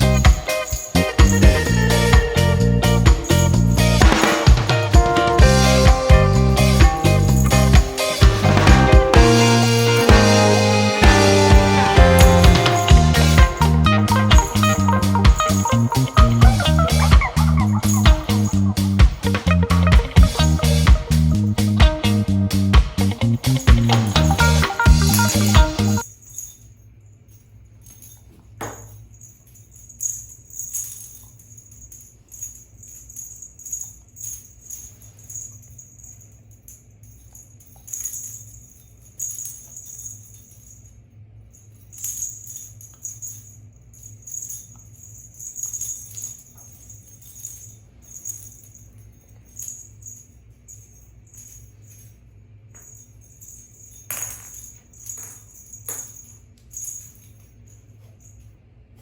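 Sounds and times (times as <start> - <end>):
low steady hum: 0.0 - 59.0
small bells jingling: 0.0 - 59.0.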